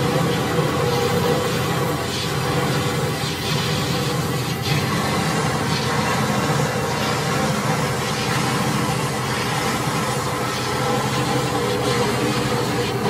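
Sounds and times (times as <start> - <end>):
bandsaw running: 0.0 - 13.0.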